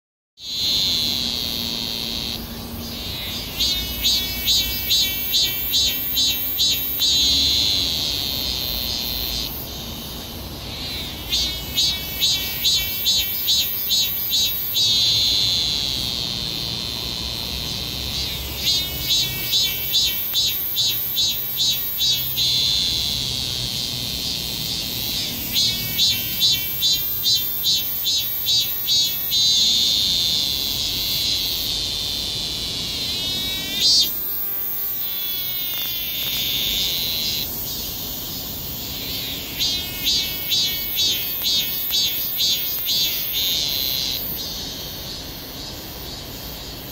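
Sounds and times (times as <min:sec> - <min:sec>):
cicada singing: 0:00.4 - 0:46.9.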